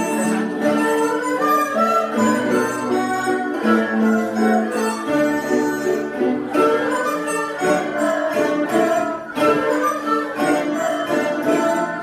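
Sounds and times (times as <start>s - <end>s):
folk ensemble with fiddles: 0.0s - 12.0s.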